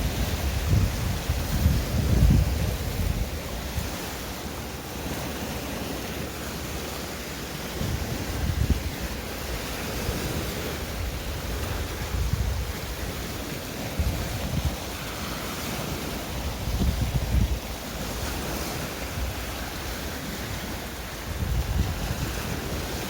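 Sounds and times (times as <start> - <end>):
wind buffeting microphone: 0.0 - 5.4, 7.6 - 23.0
sea waves washing on shore: 0.0 - 23.0.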